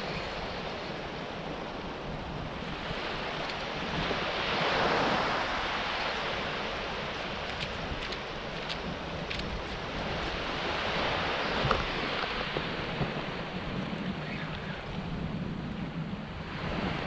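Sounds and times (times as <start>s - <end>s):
small waves washing on shore: 0.0s - 17.0s
wind rumbling on microphone: 0.0s - 17.0s.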